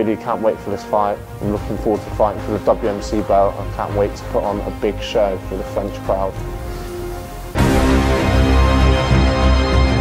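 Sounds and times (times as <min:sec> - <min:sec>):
quiet backing track: 0:00.0 - 0:10.0
music with heavy bass: 0:01.2 - 0:10.0.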